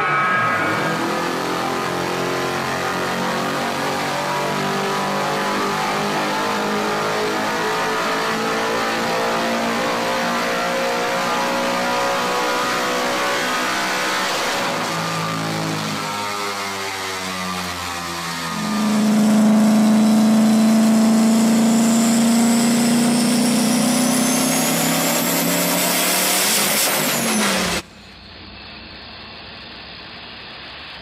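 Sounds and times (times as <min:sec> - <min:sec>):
car engine revving hard: 0:00.0 - 0:27.8.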